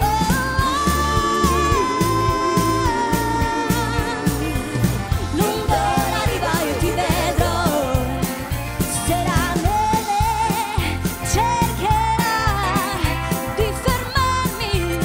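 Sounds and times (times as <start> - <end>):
woman singing into microphone: 0.0 - 8.3, 8.9 - 15.0
pop band with drum beat: 0.0 - 15.0.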